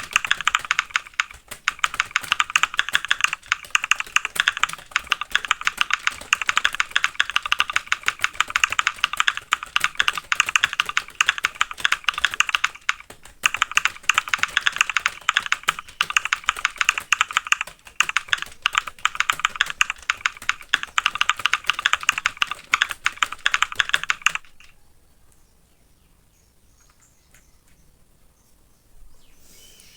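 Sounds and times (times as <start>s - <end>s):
fast keyboard typing: 0.0s - 24.8s.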